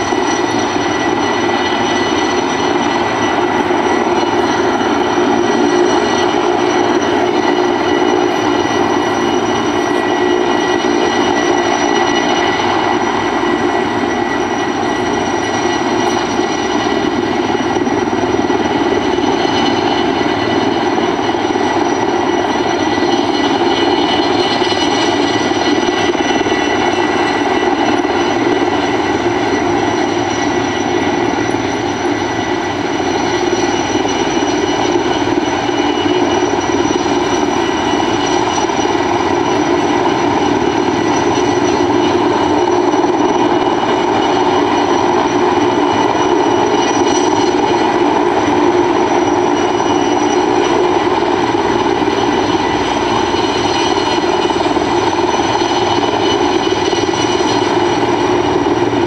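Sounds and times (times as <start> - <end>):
helicopter rotor drone: 0.0 - 59.0
turbine engine whine: 0.0 - 59.0.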